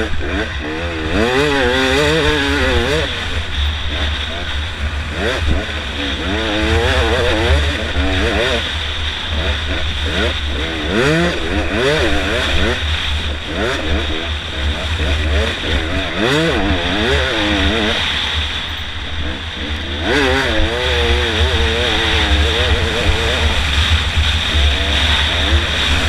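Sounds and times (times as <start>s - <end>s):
dirt bike engine revving: 0.0s - 26.0s
wind rumble on microphone: 0.0s - 26.0s.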